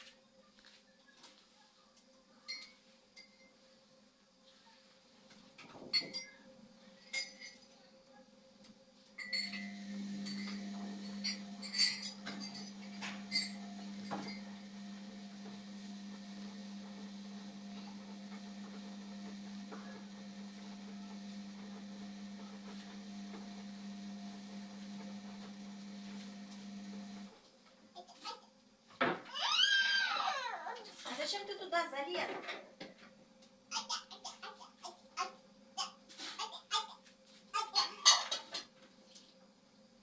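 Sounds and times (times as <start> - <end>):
washing machine humming: 5.0 - 40.0.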